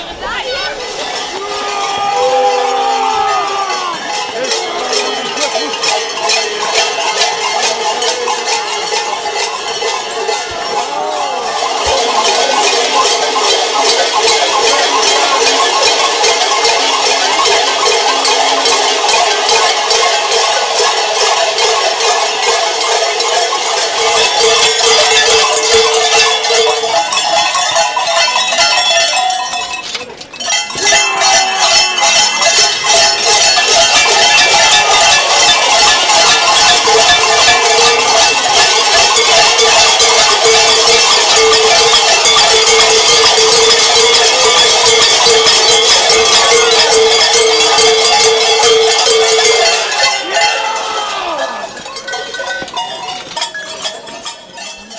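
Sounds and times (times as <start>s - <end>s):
large cowbells clanging: 0.0s - 54.9s.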